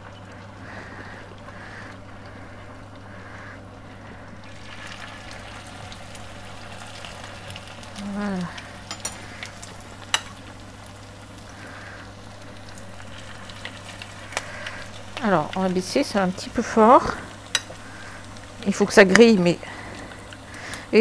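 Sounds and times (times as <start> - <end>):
patties sizzling in hot oil: 0.0 - 21.0.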